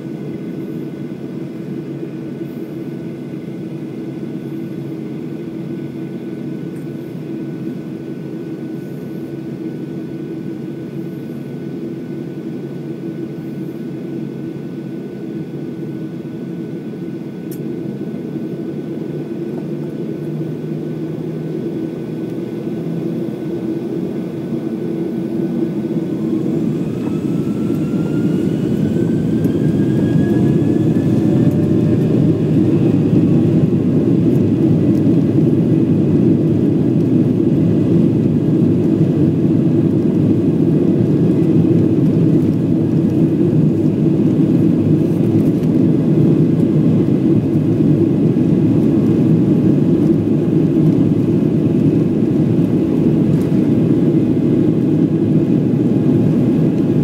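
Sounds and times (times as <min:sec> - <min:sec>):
jet engines humming: 0:00.0 - 0:57.0
jet engines whining: 0:00.0 - 0:57.0.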